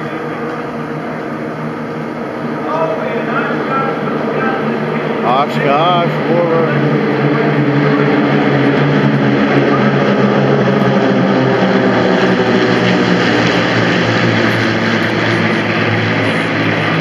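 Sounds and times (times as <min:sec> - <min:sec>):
propeller planes droning overhead: 0:00.0 - 0:17.0.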